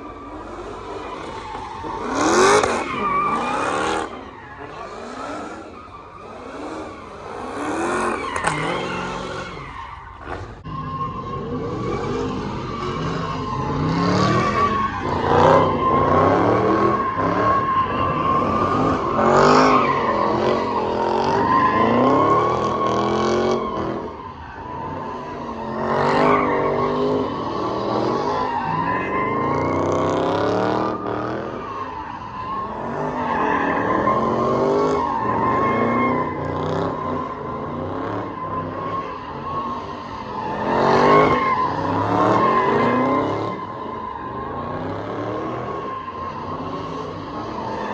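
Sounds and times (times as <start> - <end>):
car engines revving: 0.0 - 47.9
high tyre squeal: 0.0 - 47.9.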